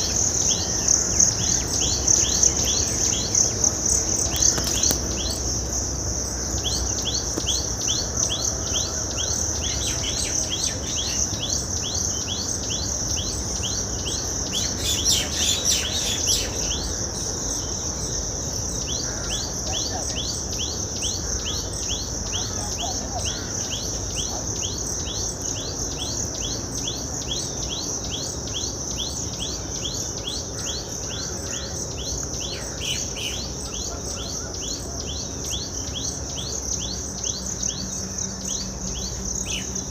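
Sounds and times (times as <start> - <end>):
bird calling: 0.0 - 17.7, 18.6 - 39.9
insect chirping: 0.0 - 39.9
insects buzzing: 0.0 - 39.9.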